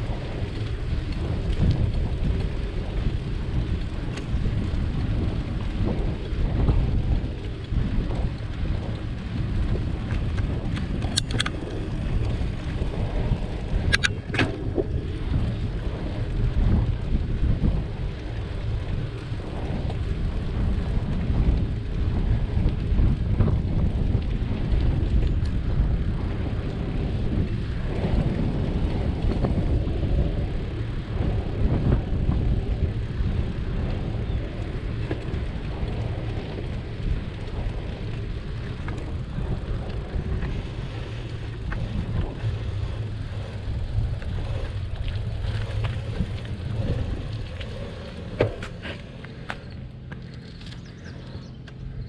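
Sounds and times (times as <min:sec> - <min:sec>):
tyres rumbling on asphalt: 0:00.0 - 0:52.0
wind buffeting microphone: 0:00.0 - 0:52.0.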